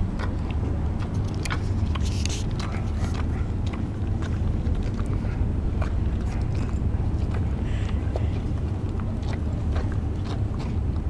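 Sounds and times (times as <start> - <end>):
steady low rumble: 0.0 - 11.0
wet licking clicks: 0.1 - 11.0.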